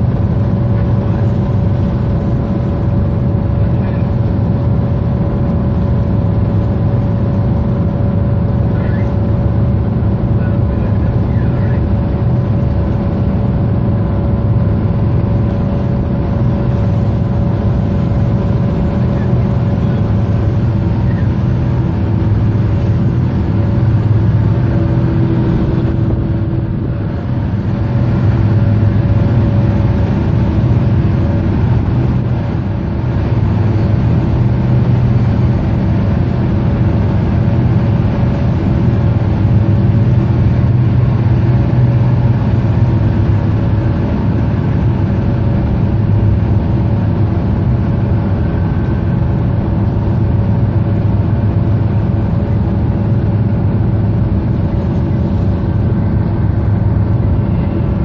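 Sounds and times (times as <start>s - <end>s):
steady hum: 0.0s - 58.0s
tugboat diesel engines droning: 0.0s - 58.0s.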